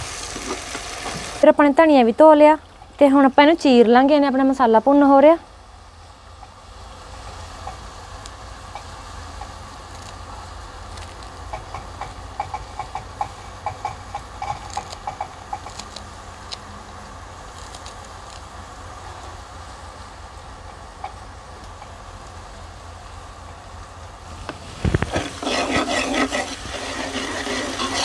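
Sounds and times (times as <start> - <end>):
masala sizzling in oil: 0.0 - 28.0.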